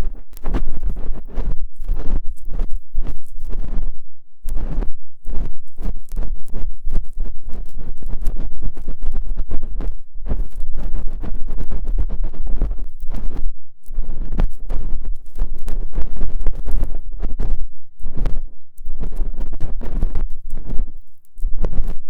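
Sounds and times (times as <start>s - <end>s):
tool scraping microphone: 0.0s - 22.0s.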